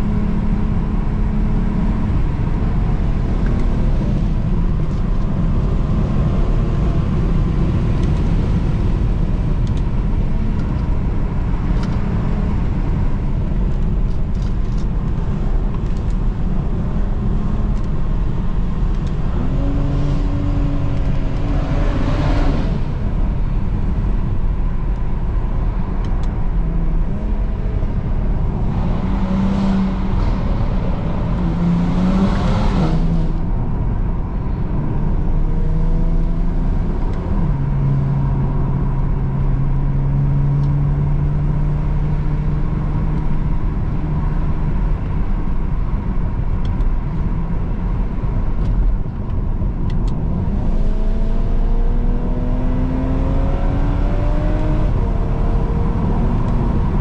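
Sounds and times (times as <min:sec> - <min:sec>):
car engine droning and revving: 0:00.0 - 0:57.0.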